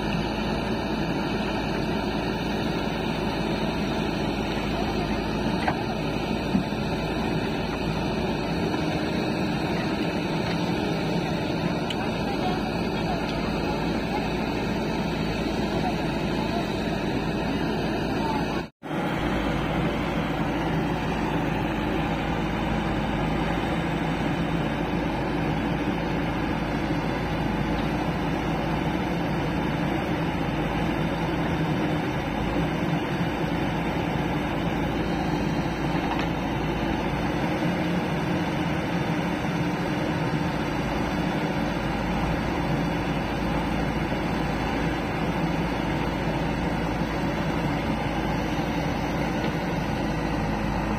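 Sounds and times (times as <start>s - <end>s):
backhoe loader engine running: 0.0s - 50.9s
tractor diesel engine running: 0.0s - 50.9s.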